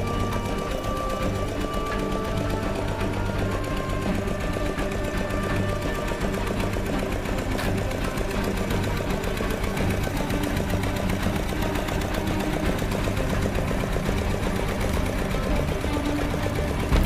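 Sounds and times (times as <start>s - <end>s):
sugarcane crusher chugging: 0.0s - 17.0s.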